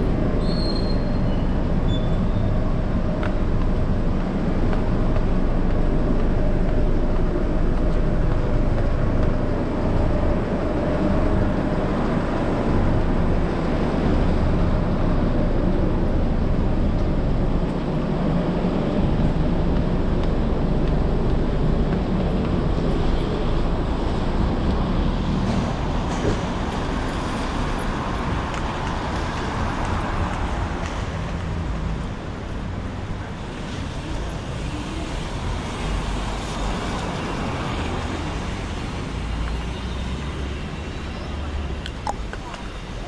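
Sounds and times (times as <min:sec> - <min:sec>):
street traffic rumble: 0:00.0 - 0:43.0.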